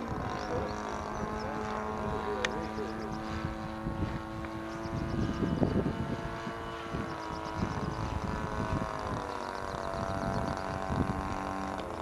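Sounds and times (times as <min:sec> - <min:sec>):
model plane engine running: 0:00.0 - 0:12.0
wind gusts on microphone: 0:00.0 - 0:12.0.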